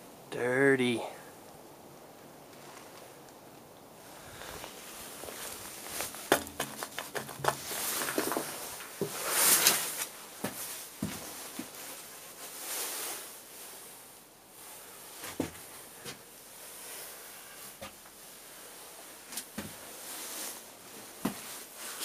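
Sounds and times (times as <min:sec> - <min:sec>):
rustling hiss: 0:00.0 - 0:22.0.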